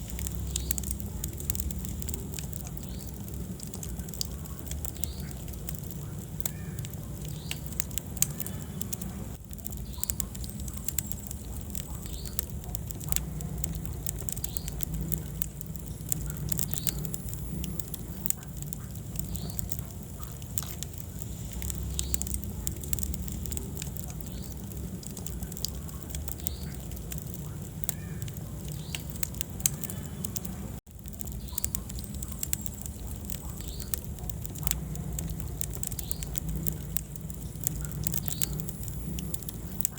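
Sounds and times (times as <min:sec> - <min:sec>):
low rumble of flames: 0:00.0 - 0:39.9
sharp pops and snaps of fire: 0:00.0 - 0:39.9
wood fire crackling: 0:00.0 - 0:39.9.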